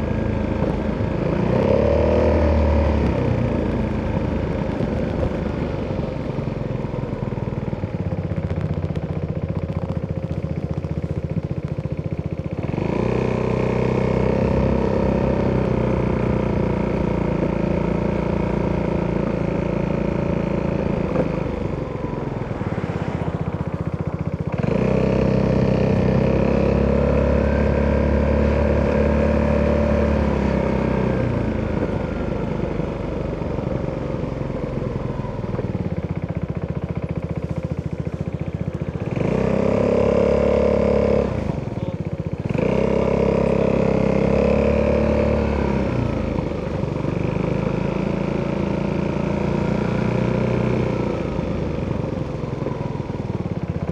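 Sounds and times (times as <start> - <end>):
scooter engine while riding: 0.0 - 53.9.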